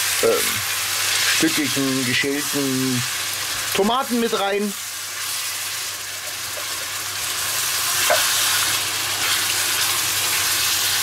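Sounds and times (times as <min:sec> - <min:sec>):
meat sauce sizzling in pan: 0:00.0 - 0:11.0.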